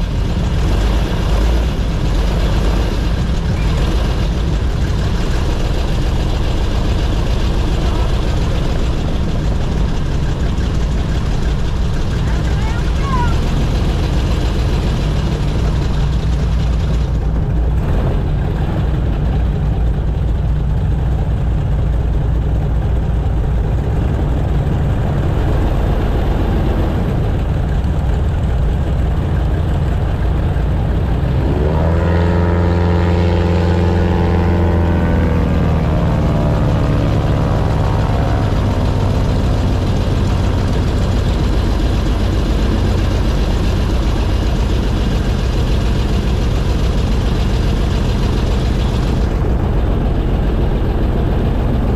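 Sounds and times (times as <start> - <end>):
airboat engine and propeller: 0.0 - 51.9.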